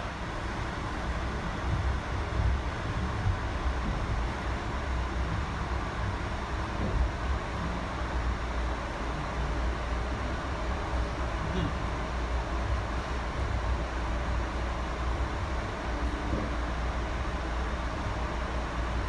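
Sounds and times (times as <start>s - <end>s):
train car rumble and hiss: 0.0s - 19.0s.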